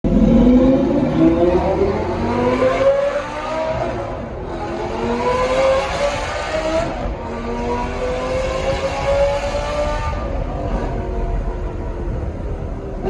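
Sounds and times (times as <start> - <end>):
sports car engine accelerating: 0.1 - 13.0.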